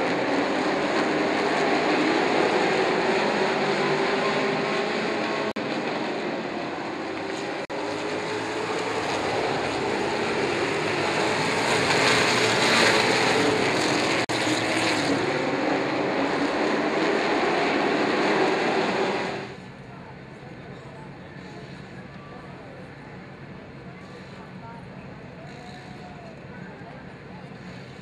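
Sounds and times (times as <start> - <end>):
race truck engines at speed: 0.0 - 28.0.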